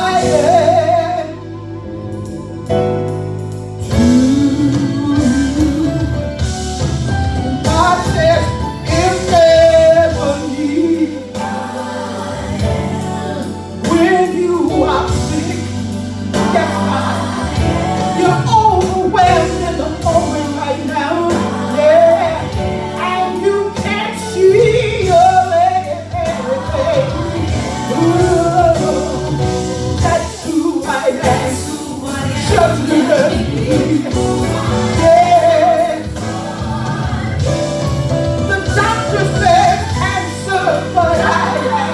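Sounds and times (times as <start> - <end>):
person singing worship song: 0.0 - 1.6, 3.8 - 6.6, 7.4 - 41.9
bass: 0.0 - 41.9
keyboard: 0.0 - 41.9.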